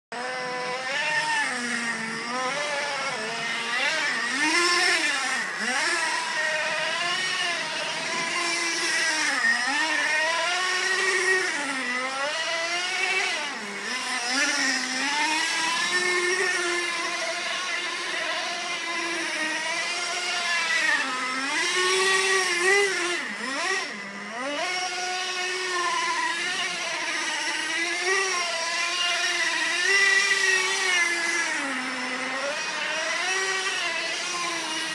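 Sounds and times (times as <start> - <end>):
toy truck motor revving: 0.1 - 34.9.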